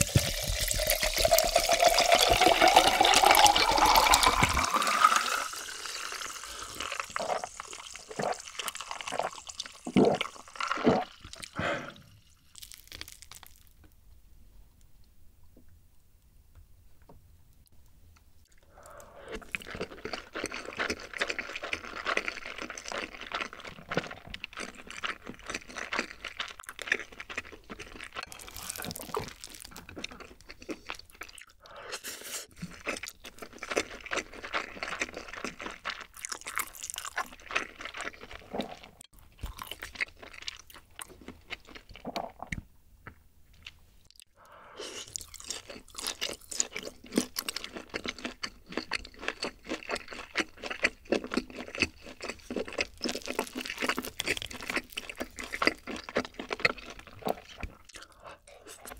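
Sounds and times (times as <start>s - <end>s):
person chewing food: 0.0s - 14.0s, 18.4s - 58.9s.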